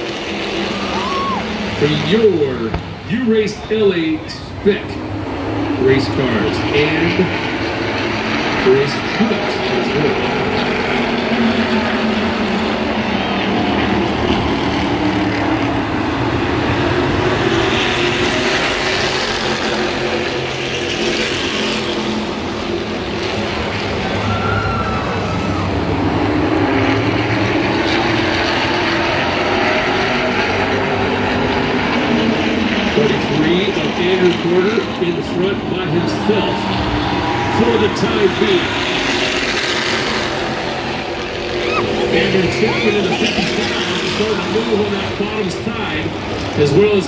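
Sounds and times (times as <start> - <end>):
race car engines droning: 0.0 - 47.0.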